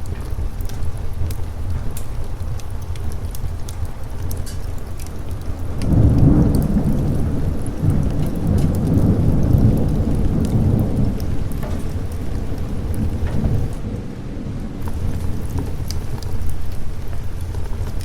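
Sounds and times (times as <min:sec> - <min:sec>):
rolling thunder: 0:00.0 - 0:18.0
steady rain: 0:00.0 - 0:18.0.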